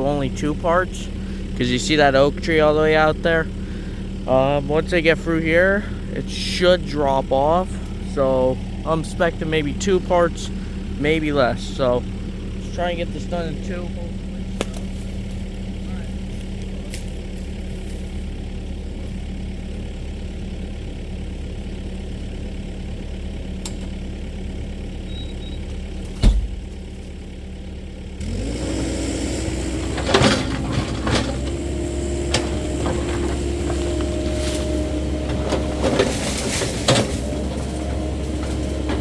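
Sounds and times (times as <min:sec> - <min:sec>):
excavator diesel engine: 0:00.0 - 0:39.0.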